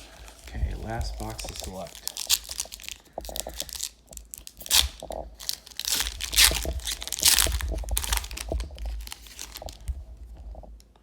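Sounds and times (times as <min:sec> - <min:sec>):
plastic and foil packaging tearing: 0:00.0 - 0:10.0.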